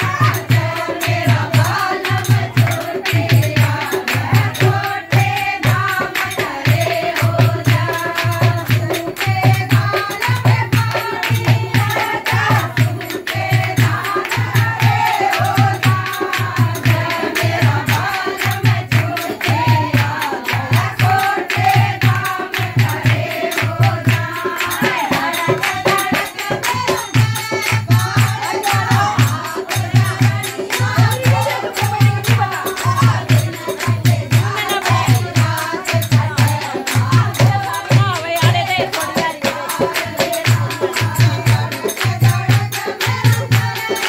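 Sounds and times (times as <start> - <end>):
hand claps: 0.0 - 44.0
rattling percussion: 0.0 - 44.0
women singing folk song: 0.0 - 44.0.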